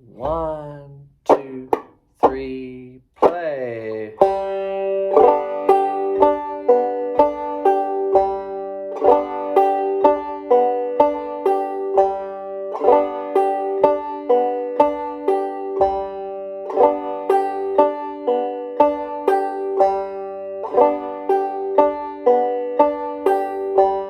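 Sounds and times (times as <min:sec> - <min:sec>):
clawhammer banjo playing: 0:00.0 - 0:24.0.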